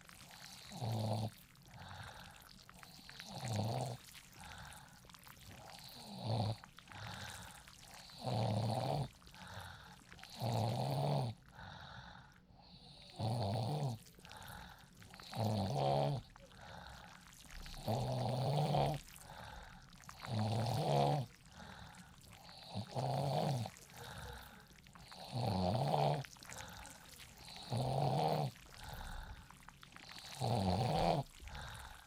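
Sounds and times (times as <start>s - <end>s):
person snoring: 0.2s - 32.0s.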